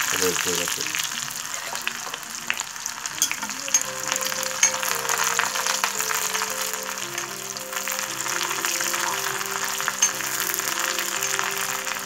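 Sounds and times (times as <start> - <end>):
food sizzling in hot oil: 0.0 - 12.0
soft background music: 0.0 - 12.0.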